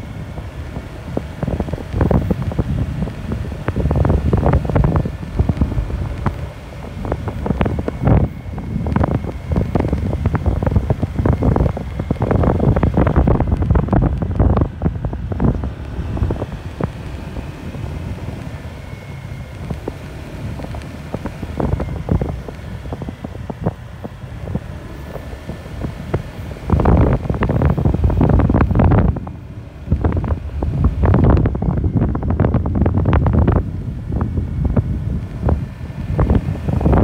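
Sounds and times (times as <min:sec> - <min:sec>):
road noise: 0:00.0 - 0:37.0
vehicle engine: 0:00.0 - 0:37.0
wind buffeting microphone: 0:00.0 - 0:37.0.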